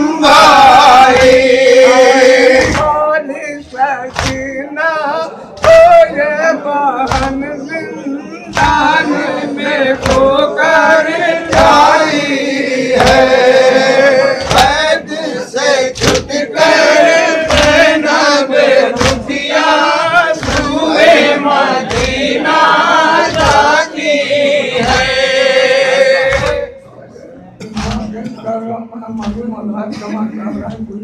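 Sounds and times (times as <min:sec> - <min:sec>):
men chanting over microphones: 0:00.0 - 0:26.8.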